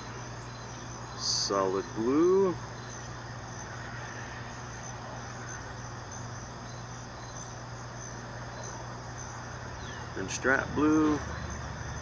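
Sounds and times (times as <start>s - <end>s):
crickets trilling: 0.0s - 12.0s
low hum and hiss: 0.0s - 12.0s.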